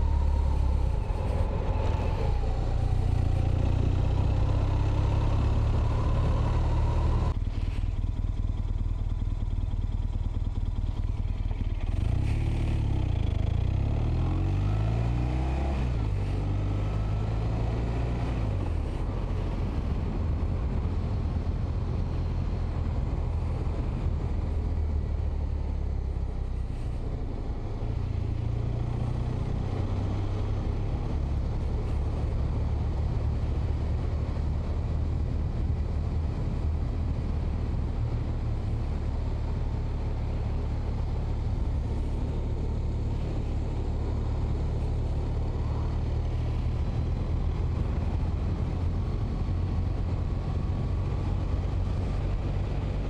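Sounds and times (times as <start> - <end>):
motorcycle engine accelerating: 0.0 - 53.0
road and wind noise: 0.0 - 53.0.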